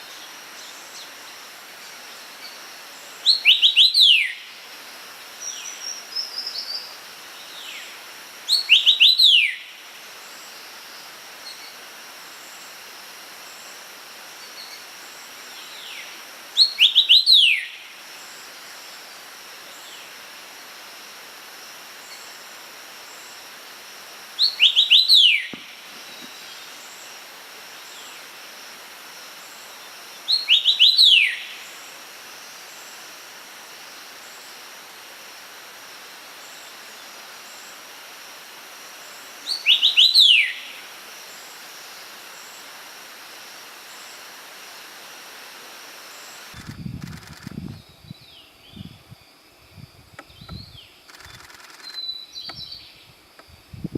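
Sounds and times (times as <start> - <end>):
steady background hiss: 0.0 - 53.9.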